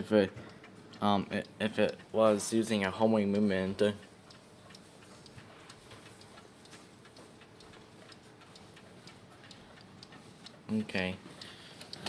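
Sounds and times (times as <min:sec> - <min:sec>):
wall clock ticking: 0:00.0 - 0:12.0.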